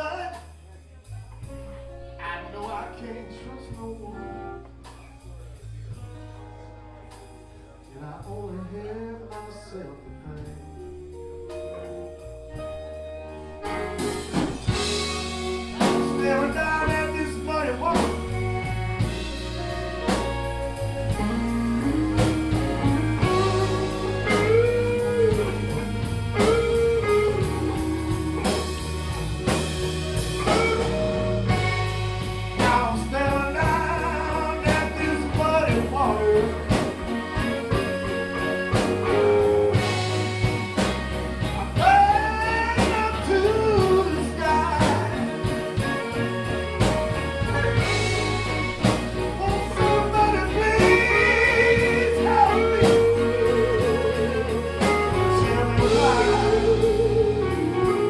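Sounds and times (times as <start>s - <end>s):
drums: 0.0s - 58.0s
electric bass: 0.0s - 58.0s
person singing: 7.8s - 12.2s, 13.2s - 58.0s.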